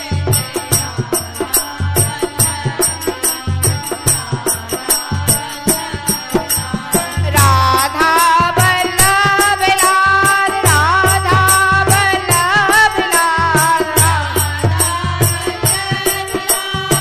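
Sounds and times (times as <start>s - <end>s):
drum beat: 0.0s - 17.0s
jingling percussion: 0.0s - 17.0s.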